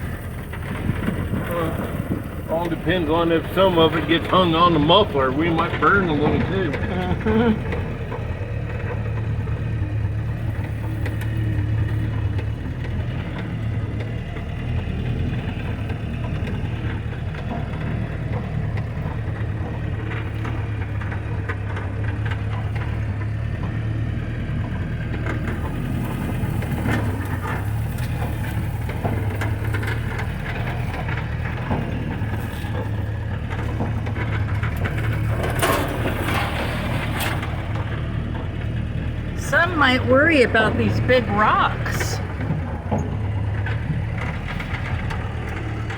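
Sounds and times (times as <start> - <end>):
car engine running at low speed: 0.0 - 45.9.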